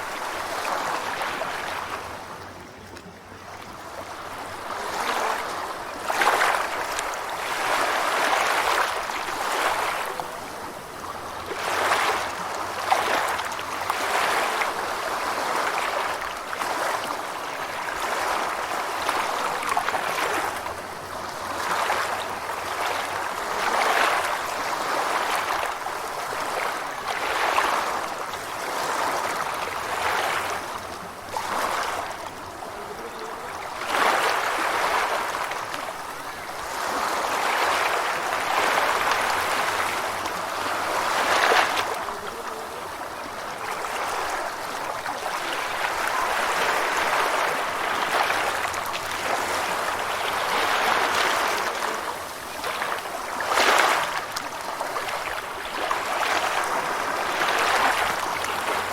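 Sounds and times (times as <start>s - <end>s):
ocean waves washing ashore: 0.0s - 58.9s.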